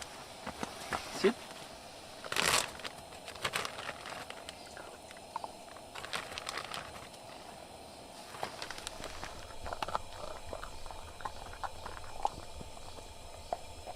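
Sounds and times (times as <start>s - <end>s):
campfire crackling: 0.0s - 13.9s.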